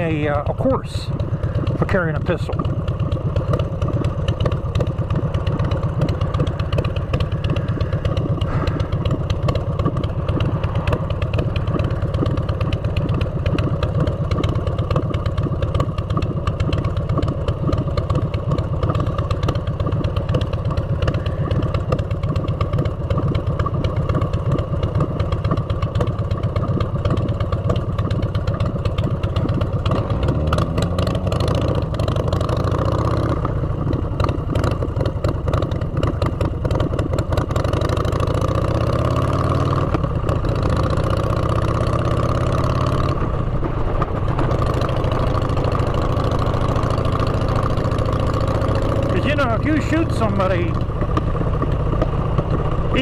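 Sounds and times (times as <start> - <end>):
motorcycle engine exhaust note: 0.0 - 53.0.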